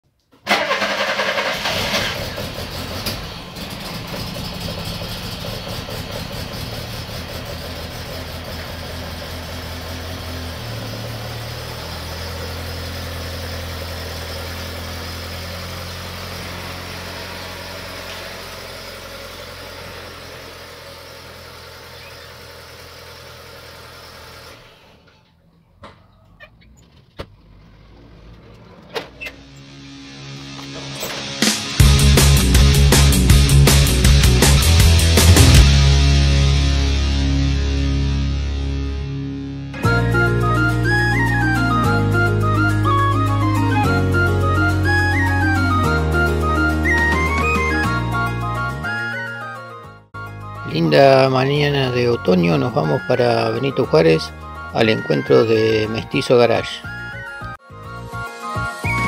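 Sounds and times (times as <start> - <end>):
van engine running: 0.4 - 59.0.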